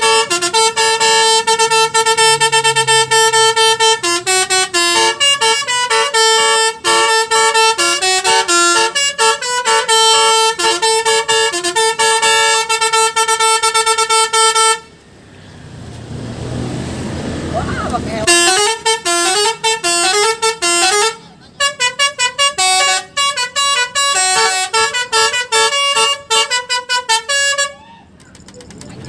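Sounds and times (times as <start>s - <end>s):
bus horn playing a tune: 0.0s - 15.0s, 17.6s - 28.2s.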